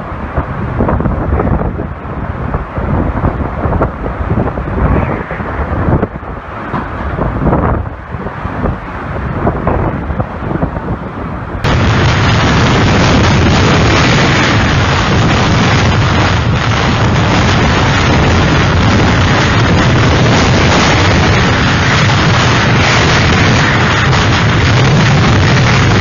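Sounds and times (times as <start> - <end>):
storm wind buffeting microphone: 0.0 - 26.0.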